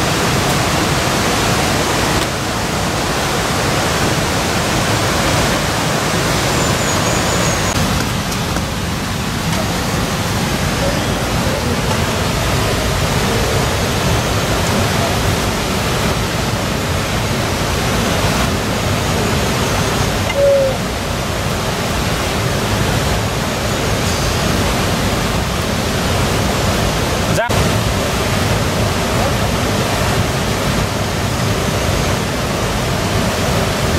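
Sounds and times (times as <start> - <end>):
steady rushing noise: 0.0 - 33.9.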